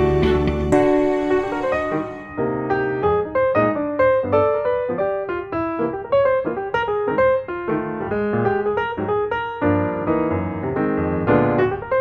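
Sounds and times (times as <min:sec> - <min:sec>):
piano melody over chords: 0:00.0 - 0:12.0.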